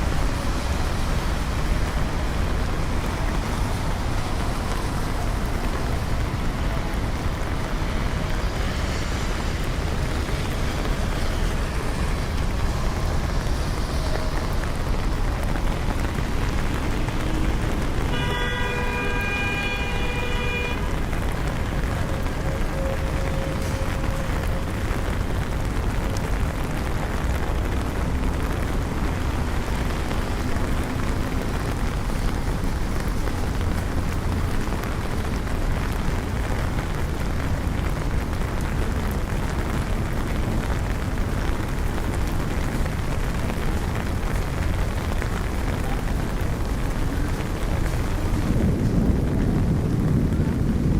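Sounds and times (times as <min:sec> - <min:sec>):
city traffic rumble: 0:00.0 - 0:50.9
steady rain: 0:00.0 - 0:50.9.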